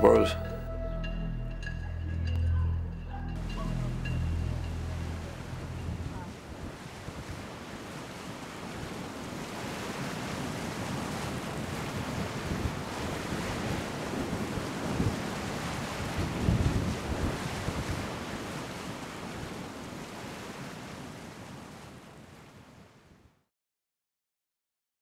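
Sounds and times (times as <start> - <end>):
sea waves: 0.0 - 23.2
wind: 0.0 - 23.4.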